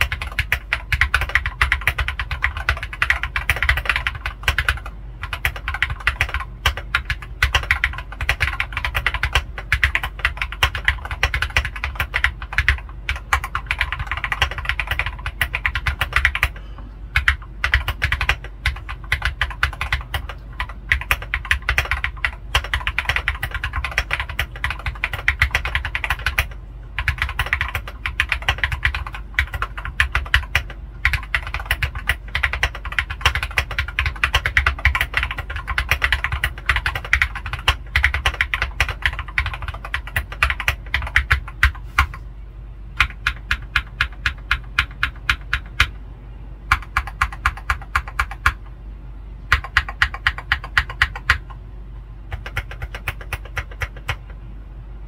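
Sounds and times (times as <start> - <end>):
typing on mechanical keyboard: 0.0 - 42.2, 43.0 - 46.0, 46.7 - 48.6, 49.5 - 51.6, 52.3 - 54.4.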